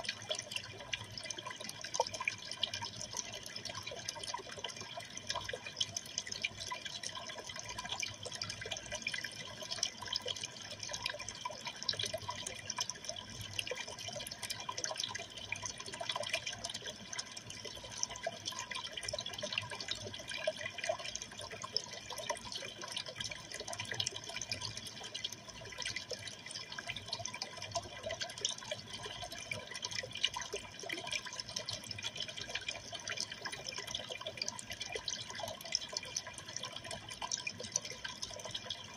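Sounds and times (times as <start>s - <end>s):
aquarium water trickling: 0.0s - 38.9s.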